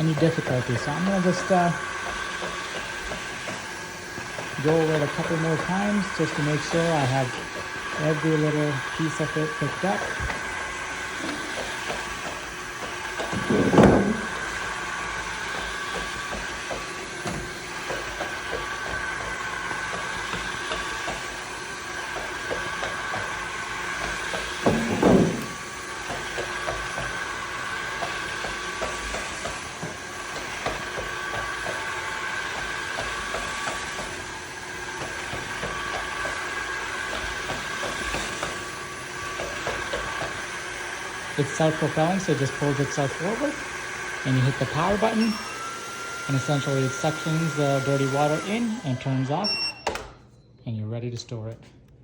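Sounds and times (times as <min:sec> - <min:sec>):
vacuum mop whining: 0:00.0 - 0:50.2.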